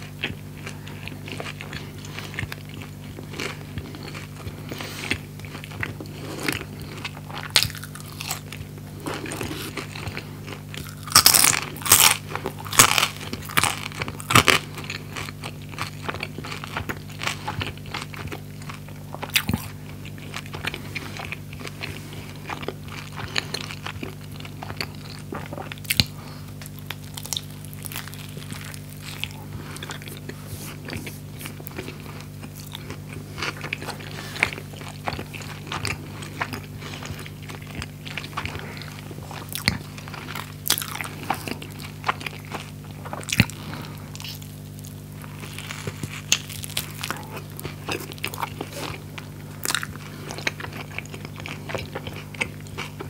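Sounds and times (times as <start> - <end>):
crunchy sandwich chewing: 0.0 - 53.0
steady low hum: 0.0 - 53.0.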